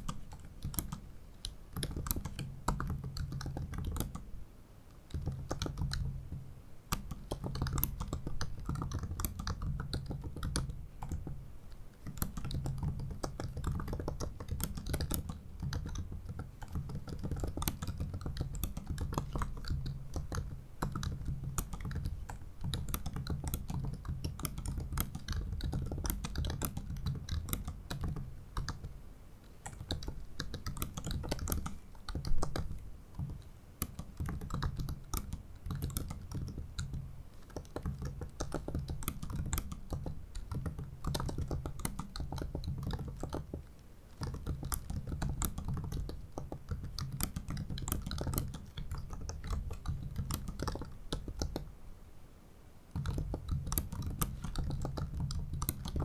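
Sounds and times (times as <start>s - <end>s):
keyboard typing clicks: 0.0s - 4.3s, 5.0s - 51.7s, 52.9s - 56.0s.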